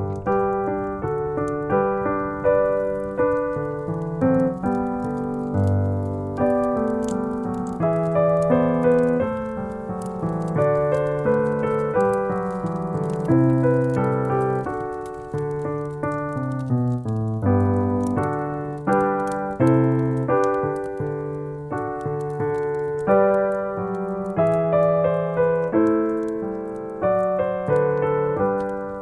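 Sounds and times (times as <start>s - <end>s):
slow piano music: 0.0s - 29.0s.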